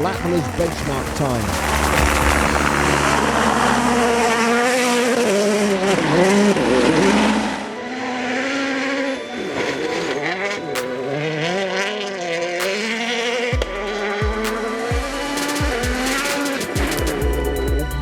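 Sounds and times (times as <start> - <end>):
sharp exhaust cracks: 0.0 - 7.6, 10.8 - 18.0
rally car engine revving: 0.0 - 18.0.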